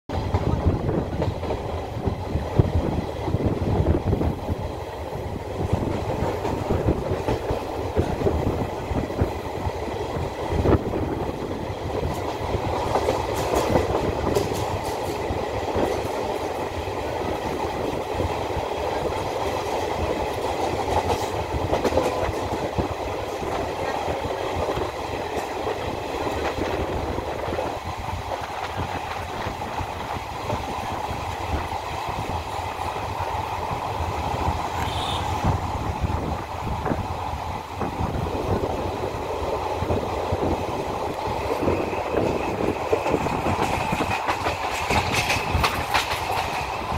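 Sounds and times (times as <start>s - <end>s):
wheels clacking over rail joints: 0.1s - 10.0s, 10.6s - 37.0s, 37.6s - 46.9s
train wheels rumbling on rail: 0.1s - 46.9s.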